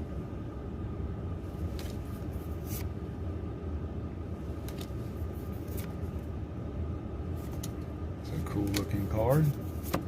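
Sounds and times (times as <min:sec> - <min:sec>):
low hum: 0:00.0 - 0:09.9.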